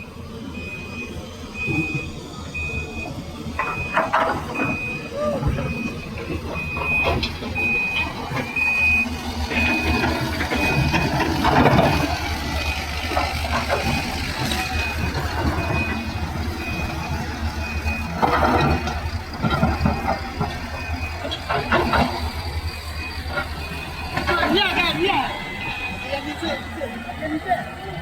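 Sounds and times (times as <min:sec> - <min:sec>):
diesel engine running: 0:00.0 - 0:28.0
reversing alarm beeping: 0:00.0 - 0:28.0
rumbling and clanking: 0:00.4 - 0:28.0.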